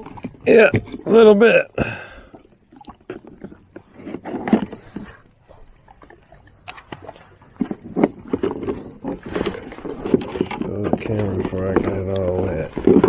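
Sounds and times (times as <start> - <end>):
knocks and clatter in boat: 0.0 - 1.3, 1.9 - 13.0
water splashing: 0.0 - 13.0.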